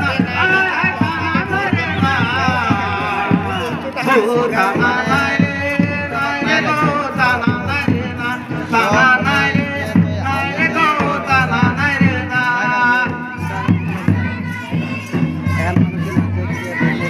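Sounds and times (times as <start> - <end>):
hand drum beat: 0.0 - 17.0
person singing folk song: 0.0 - 17.0.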